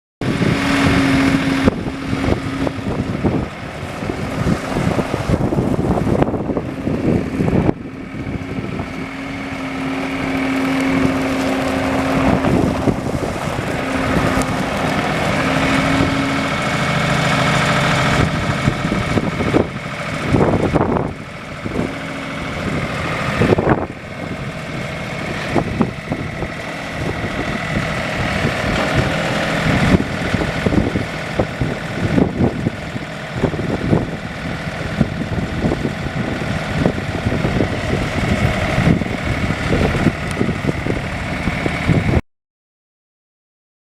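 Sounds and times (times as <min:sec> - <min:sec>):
diesel engine running: 0:00.2 - 0:42.2.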